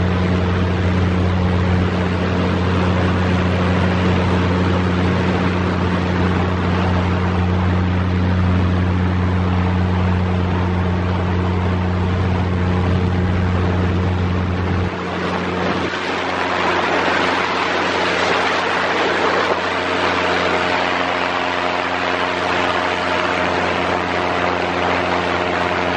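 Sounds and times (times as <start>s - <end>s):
paramotor engine droning: 0.0s - 25.9s
wind rushing over microphone: 0.0s - 25.9s.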